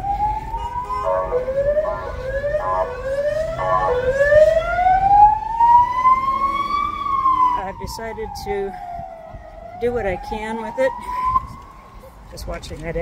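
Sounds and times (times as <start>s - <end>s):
ambulance siren: 0.0s - 12.1s.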